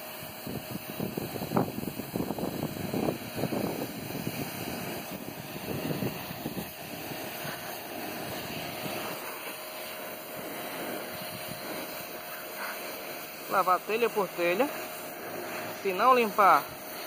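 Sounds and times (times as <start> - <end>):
pressure washer jet spraying tiles: 0.0 - 17.0.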